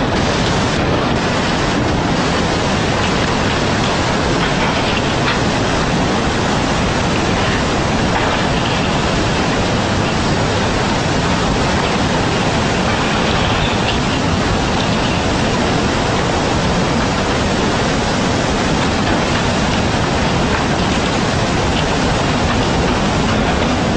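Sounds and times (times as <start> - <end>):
floodwater rushing roar: 0.0 - 23.9.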